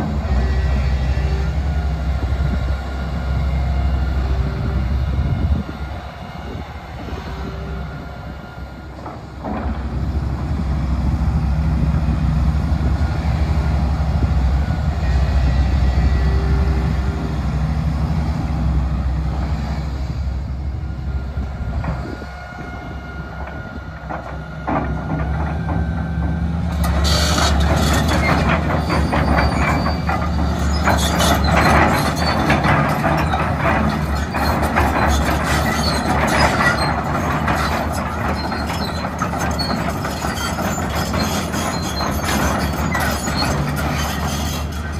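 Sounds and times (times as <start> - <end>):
excavator diesel engine running: 0.0 - 44.9
steel tracks clanking and squeaking: 0.0 - 44.9.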